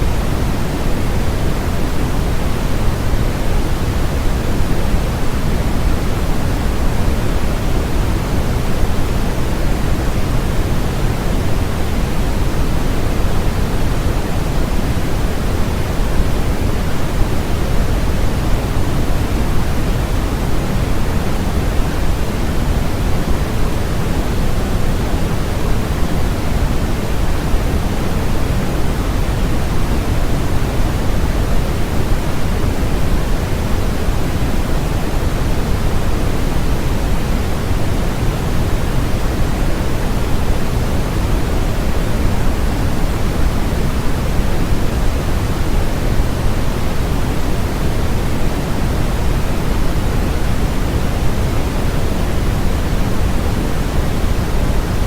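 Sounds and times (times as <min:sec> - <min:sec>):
steady generated noise: 0:00.0 - 0:55.0.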